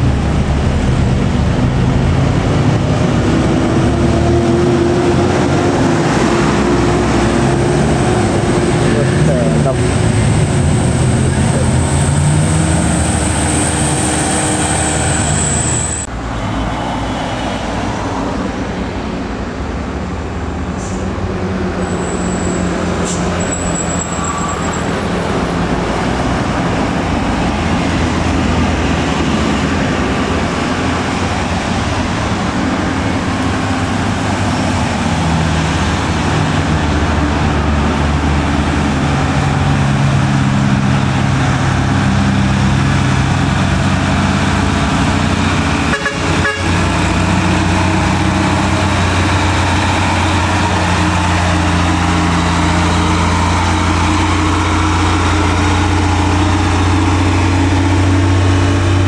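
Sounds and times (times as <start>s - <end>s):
road traffic: 0.0s - 59.0s
truck diesel engine climbing: 0.0s - 59.0s.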